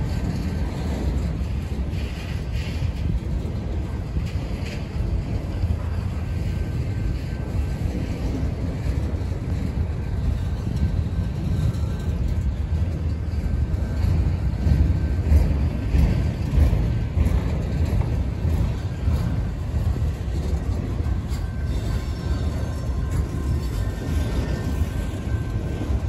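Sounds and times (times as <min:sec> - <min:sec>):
steel train wheels rumbling: 0:00.0 - 0:26.0.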